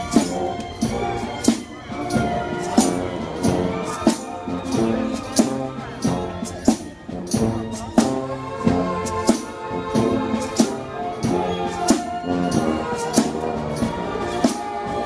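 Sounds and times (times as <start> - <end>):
marching brass band playing: 0.0 - 15.0.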